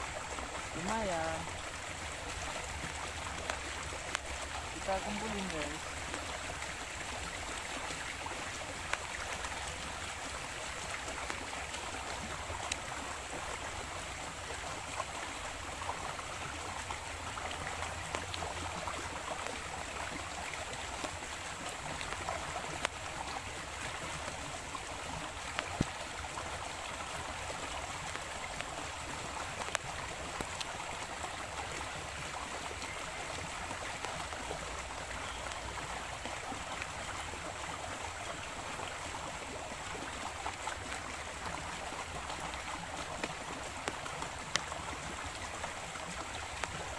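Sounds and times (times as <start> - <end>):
small stream flowing: 0.0 - 46.9.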